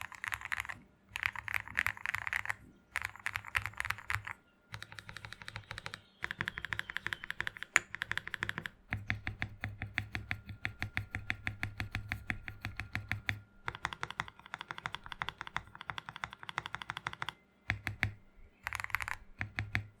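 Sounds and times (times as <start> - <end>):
fast typing on mechanical keyboard: 0.0 - 20.0.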